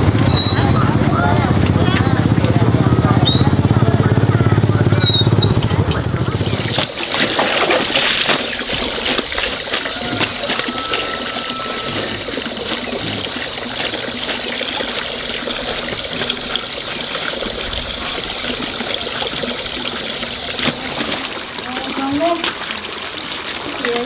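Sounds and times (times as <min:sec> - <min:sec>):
running water splashing: 0:00.0 - 0:24.0.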